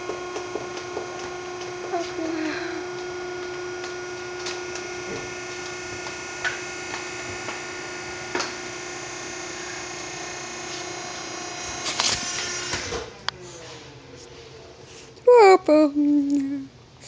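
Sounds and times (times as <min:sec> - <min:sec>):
machine hum: 0:00.0 - 0:15.3.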